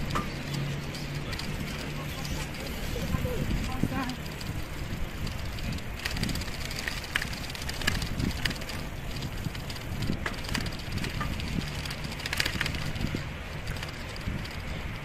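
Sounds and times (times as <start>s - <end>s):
footsteps on paved path: 0.0s - 15.0s
wind rumble on microphone: 0.0s - 15.0s.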